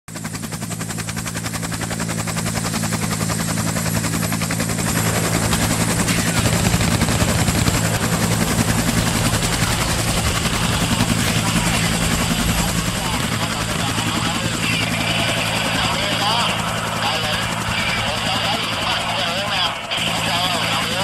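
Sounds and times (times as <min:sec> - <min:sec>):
helicopter rotor chop: 0:00.1 - 0:21.0.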